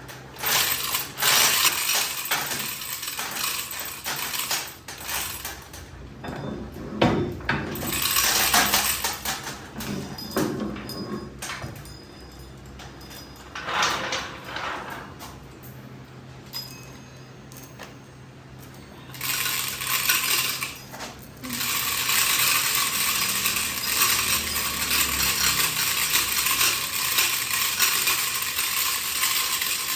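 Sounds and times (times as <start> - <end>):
metallic clinks and knocks: 0.0 - 29.9.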